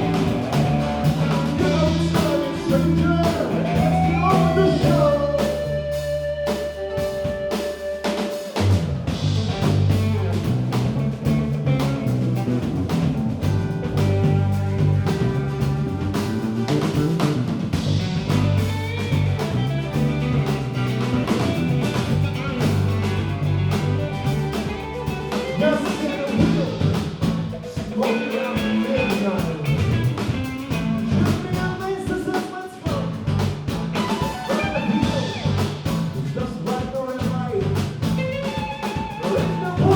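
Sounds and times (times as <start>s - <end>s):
bass line: 0.0s - 39.9s
drum kit: 0.0s - 39.9s
guitar: 0.0s - 39.9s.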